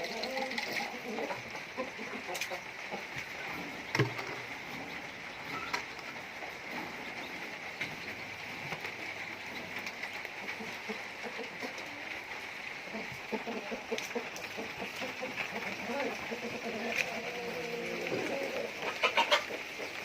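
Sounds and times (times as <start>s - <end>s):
background hiss: 0.0s - 20.0s
chickens clucking: 0.0s - 20.0s.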